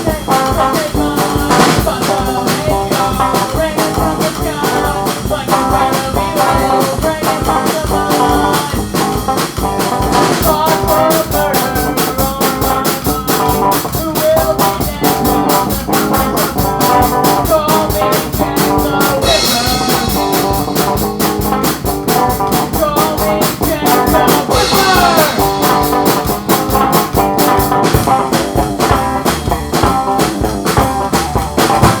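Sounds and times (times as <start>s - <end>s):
band playing fast rock song: 0.0s - 32.0s
pulsing drum beat: 0.0s - 32.0s.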